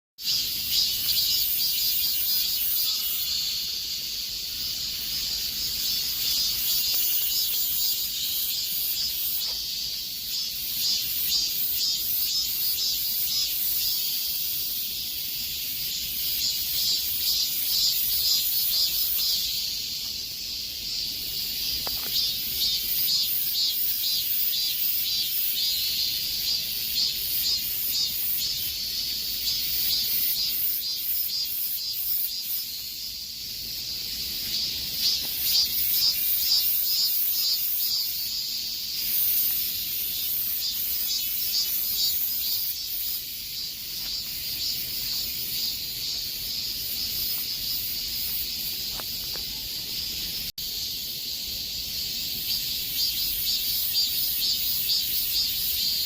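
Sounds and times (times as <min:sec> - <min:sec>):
cicadas buzzing: 0:00.2 - 0:56.0.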